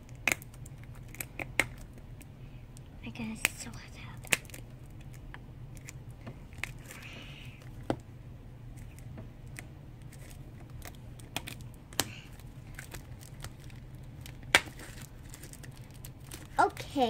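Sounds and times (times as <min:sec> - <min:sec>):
fingers crinkling plastic wrap: 0:00.0 - 0:02.3, 0:03.2 - 0:07.8, 0:08.8 - 0:17.0
low steady hum: 0:00.0 - 0:17.0.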